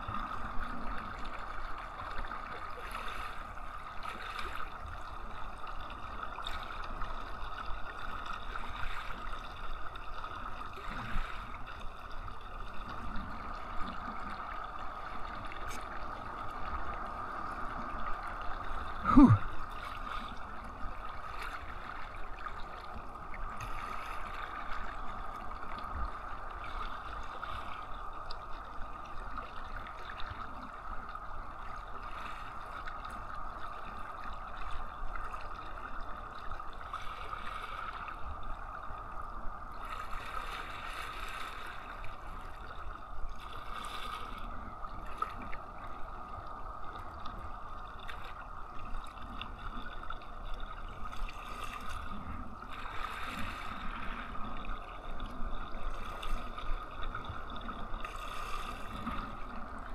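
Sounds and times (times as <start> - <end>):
water gurgling around kayak: 0.0 - 59.9.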